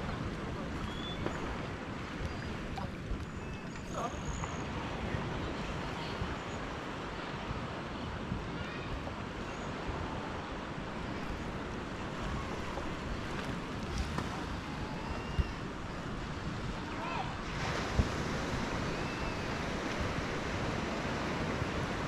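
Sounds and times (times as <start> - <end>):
small waves washing on sand: 0.0 - 22.0.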